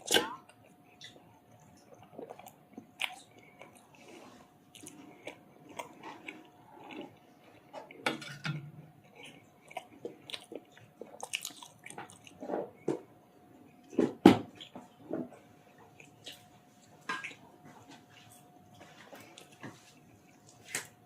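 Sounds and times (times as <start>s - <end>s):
person chewing food: 0.0s - 8.4s, 9.0s - 21.0s
faint steady hum: 0.0s - 21.0s.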